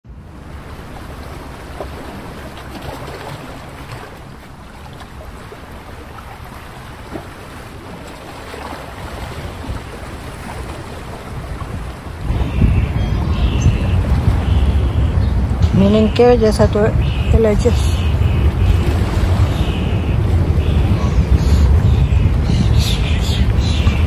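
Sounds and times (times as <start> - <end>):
wind buffeting microphone: 0.1 - 24.0.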